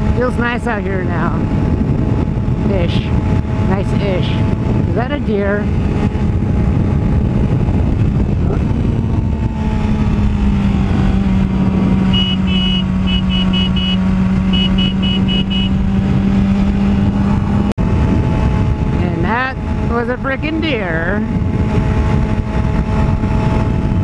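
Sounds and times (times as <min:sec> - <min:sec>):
motorcycle engine cruising: 0:00.0 - 0:24.0
wind rush on microphone: 0:00.0 - 0:24.0.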